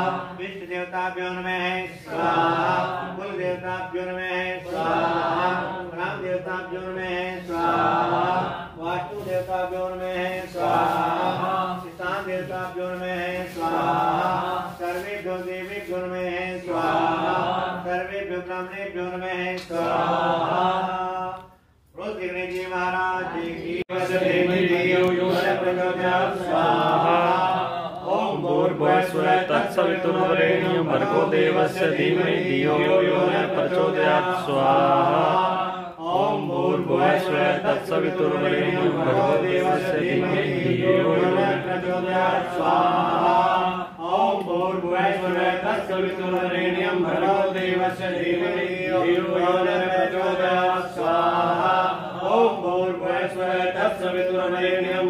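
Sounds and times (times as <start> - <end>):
mantras chanted: 0.0 - 55.0.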